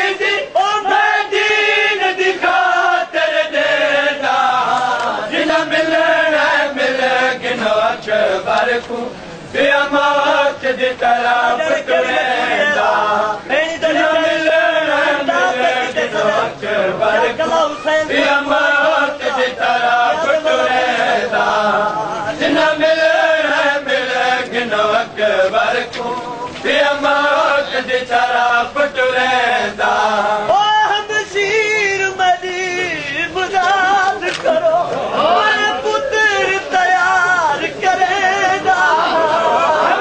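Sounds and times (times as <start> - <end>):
men chanting a mourning lament: 0.0 - 40.0.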